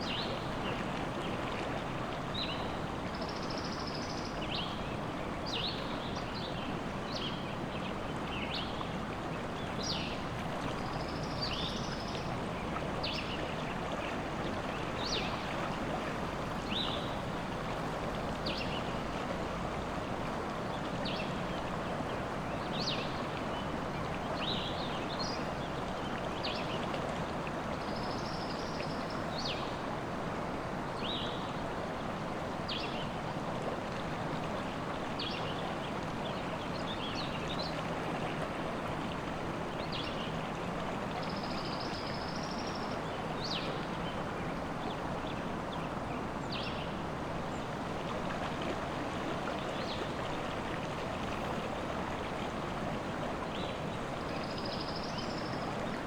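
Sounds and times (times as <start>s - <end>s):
river water rushing: 4.0s - 56.0s.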